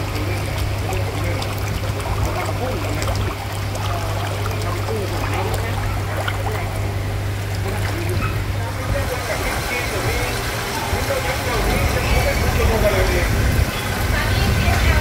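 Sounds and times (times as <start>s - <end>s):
steady low hum: 0.0s - 15.0s
water trickling and splashing: 0.0s - 15.0s.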